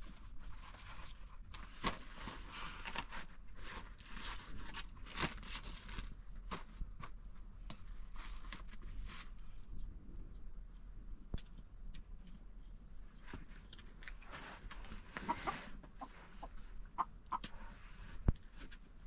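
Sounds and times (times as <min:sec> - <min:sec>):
flatbread crackling and rustling: 0:00.0 - 0:10.3, 0:11.2 - 0:16.9.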